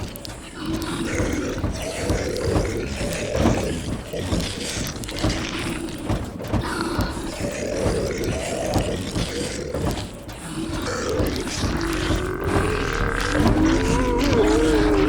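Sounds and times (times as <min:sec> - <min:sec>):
creaking and rattling: 0:00.0 - 0:15.0
zombie voices moaning: 0:00.5 - 0:05.8, 0:06.6 - 0:15.0.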